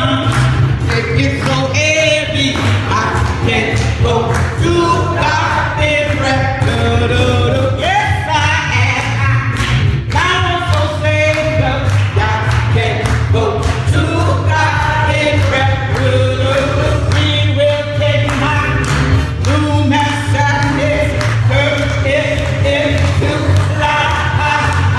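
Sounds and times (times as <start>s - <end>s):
gospel choir singing: 0.0s - 8.9s, 10.4s - 24.9s
instrumental accompaniment with bass: 0.0s - 24.9s.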